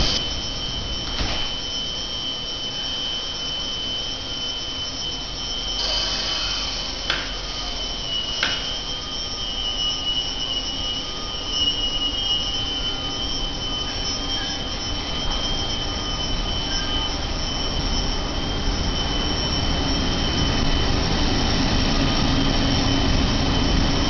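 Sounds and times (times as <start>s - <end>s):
electric train high whine: 0.0s - 24.0s.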